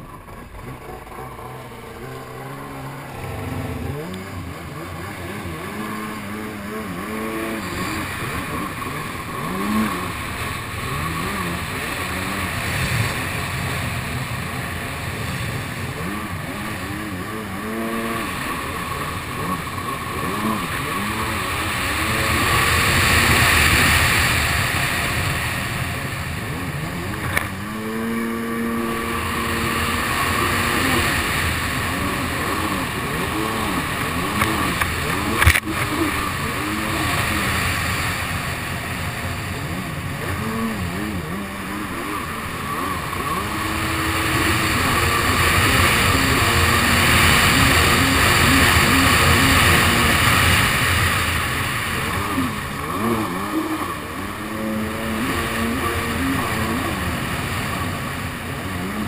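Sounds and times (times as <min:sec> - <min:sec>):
jet ski engine revving: 0:00.0 - 0:59.0
water spray rushing: 0:01.5 - 0:59.0.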